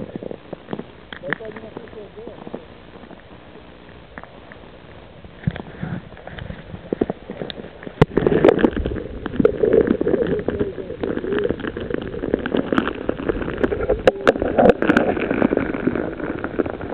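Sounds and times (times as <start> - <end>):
underwater stream gurgling: 0.0 - 16.9.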